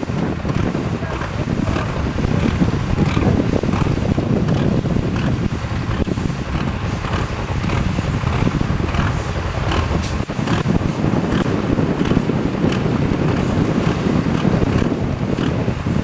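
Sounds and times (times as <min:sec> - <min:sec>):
diesel engine running loudly: 0:00.0 - 0:16.0.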